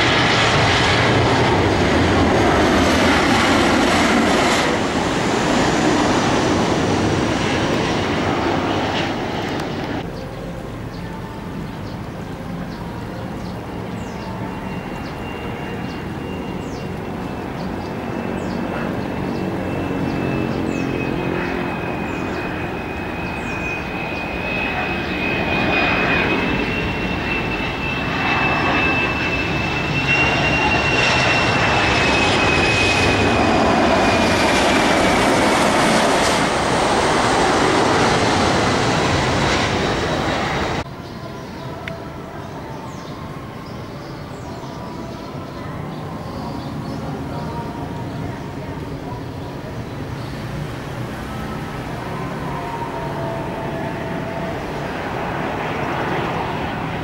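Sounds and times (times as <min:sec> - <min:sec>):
jet airliner passing overhead: 0:00.0 - 0:57.0.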